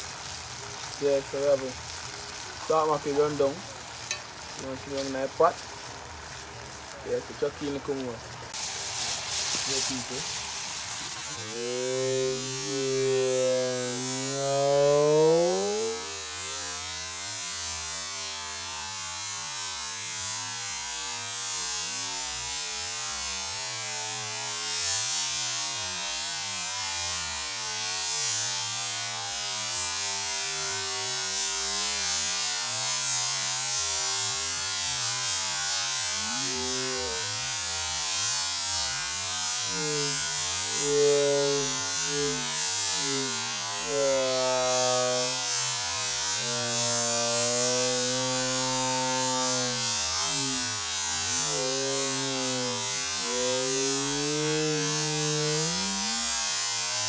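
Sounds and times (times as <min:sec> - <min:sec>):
steady hiss: 0:00.0 - 0:57.0
small motor buzzing: 0:07.6 - 0:57.0.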